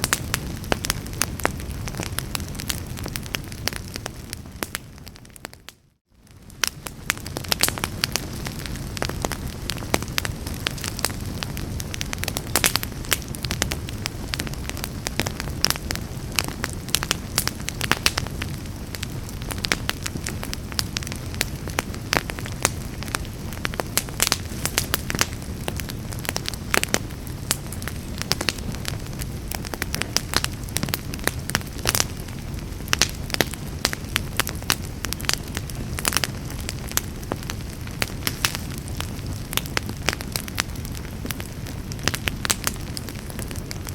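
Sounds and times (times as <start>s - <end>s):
burning wood crackling and popping: 0.0s - 43.9s
low sound of flames: 0.0s - 43.9s.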